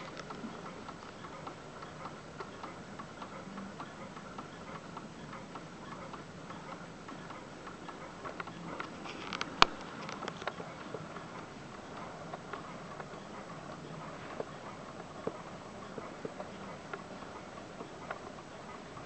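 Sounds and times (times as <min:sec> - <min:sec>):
clock ticking: 0:00.0 - 0:19.0.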